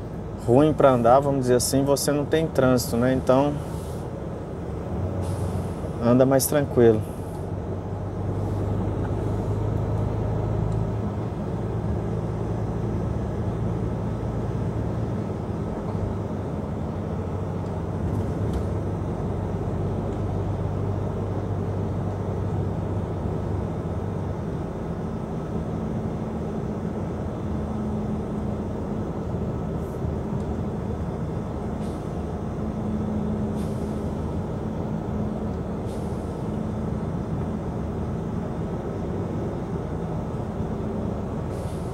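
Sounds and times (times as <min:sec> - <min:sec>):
truck engine and tyre drone: 0:00.0 - 0:41.9.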